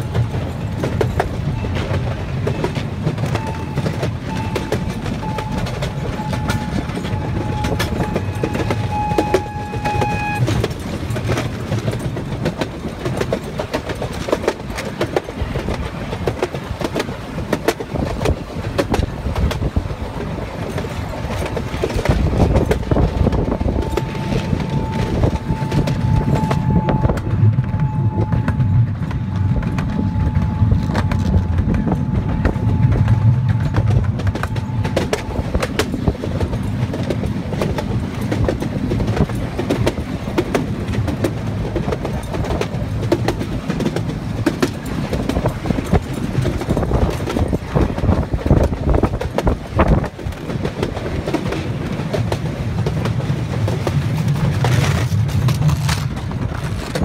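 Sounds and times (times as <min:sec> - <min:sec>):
train rumble: 0:00.0 - 0:57.0
wheels clicking over rail joints: 0:00.0 - 0:57.0.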